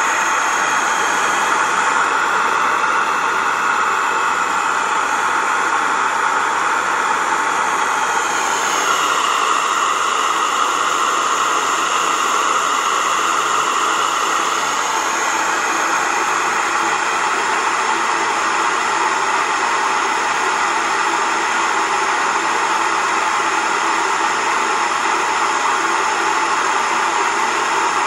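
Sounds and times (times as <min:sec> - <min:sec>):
electric grain mill grinding: 0:00.0 - 0:28.0.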